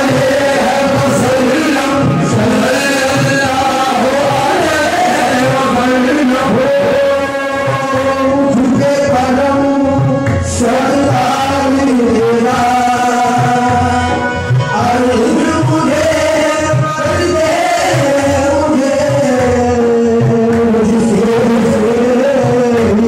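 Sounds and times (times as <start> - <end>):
harmonium: 0.0 - 23.0.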